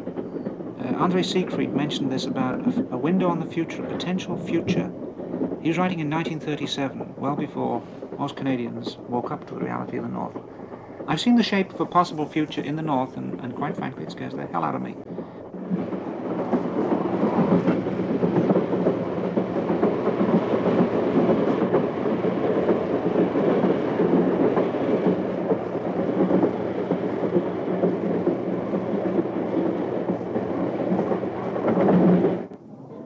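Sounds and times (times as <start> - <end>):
train cars rumbling on track: 0.0 - 33.0.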